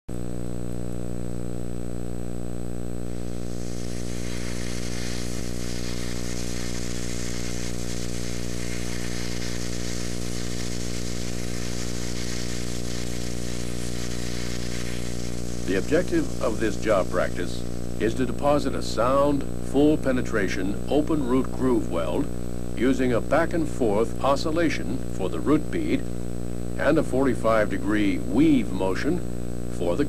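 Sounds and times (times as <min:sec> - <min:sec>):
low electrical hum: 0:00.1 - 0:30.0
even hiss: 0:02.9 - 0:30.0.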